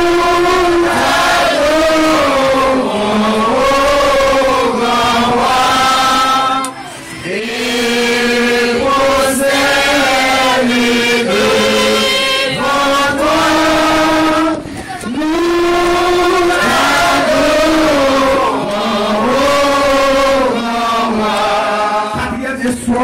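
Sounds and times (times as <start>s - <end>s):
chant-like singing: 0.0s - 23.0s.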